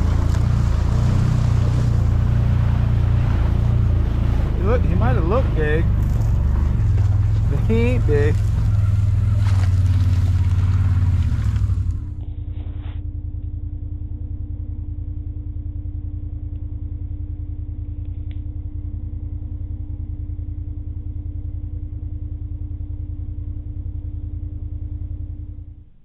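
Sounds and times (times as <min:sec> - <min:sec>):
constant hum: 0:00.0 - 0:26.0
low mechanical rumble: 0:00.0 - 0:26.0.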